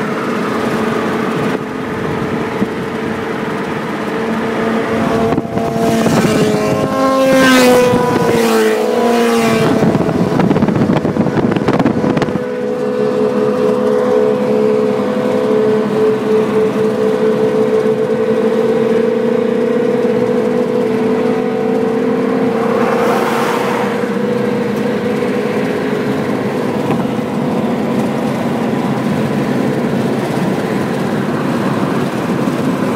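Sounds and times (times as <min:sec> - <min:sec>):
car engine hum in cabin: 0:00.0 - 0:32.9
passing traffic rush: 0:00.0 - 0:32.9
road noise: 0:00.0 - 0:32.9.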